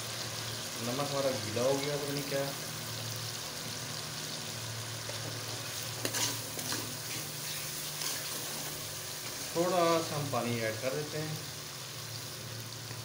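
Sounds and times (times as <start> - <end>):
masala frying in a pot: 0.0 - 13.0.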